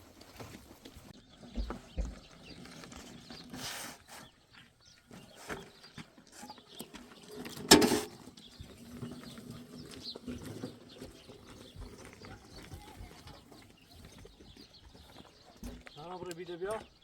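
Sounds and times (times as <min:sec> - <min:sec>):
sheep and goats milling around: 0:00.0 - 0:17.0.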